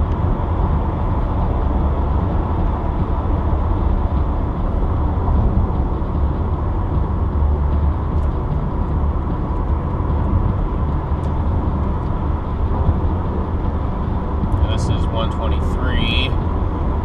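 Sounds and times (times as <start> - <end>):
tyre and engine rumble: 0.0 - 17.0.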